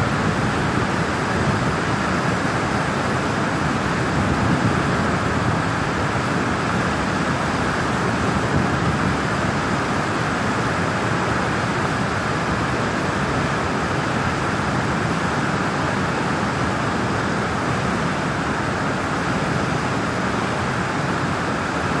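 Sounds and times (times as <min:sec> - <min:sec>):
water rushing through dam gates: 0:00.0 - 0:22.0.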